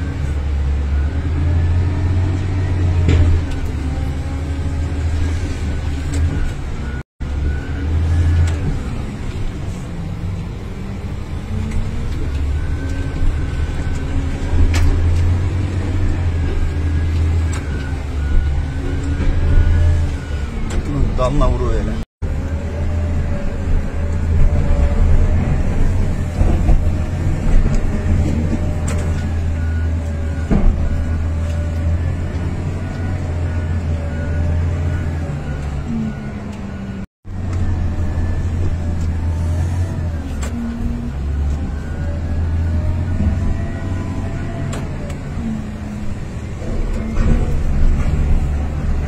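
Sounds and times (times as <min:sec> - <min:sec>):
excavator diesel engine droning: 0:00.0 - 0:49.0.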